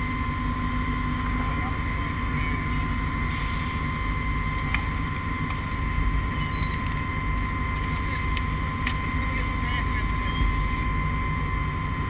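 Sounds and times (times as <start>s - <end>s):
motor drone with high whine: 0.0s - 12.0s.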